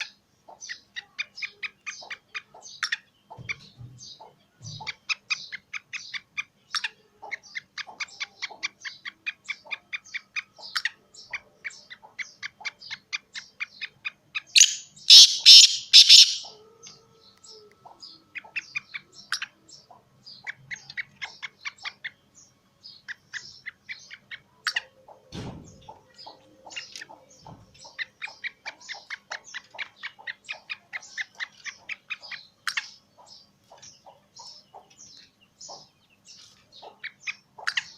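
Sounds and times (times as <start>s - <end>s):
harsh bird calls: 0.0s - 37.9s
small birds chirping: 0.0s - 37.9s.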